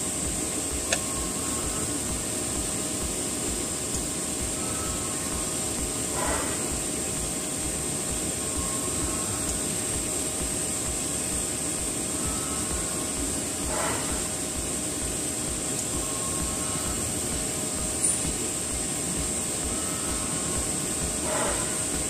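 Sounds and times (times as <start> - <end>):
welding arc hissing: 0.0 - 22.0.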